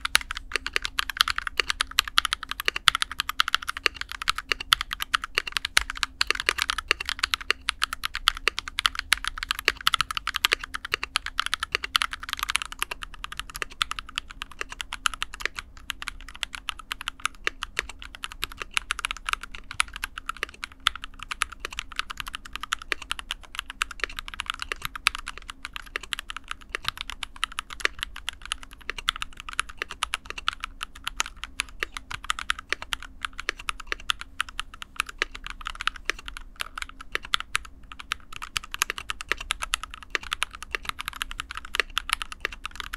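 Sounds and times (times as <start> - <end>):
fast typing on mechanical keyboard: 0.0 - 42.9.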